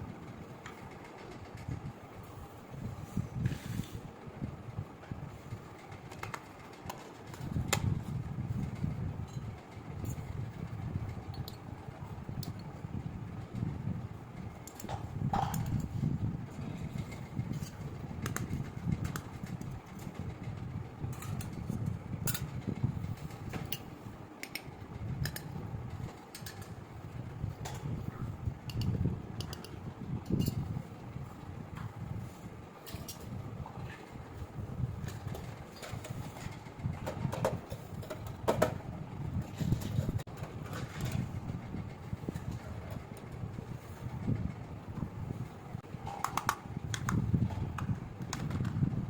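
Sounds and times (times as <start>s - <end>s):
low steady rumble: 0.0s - 49.0s.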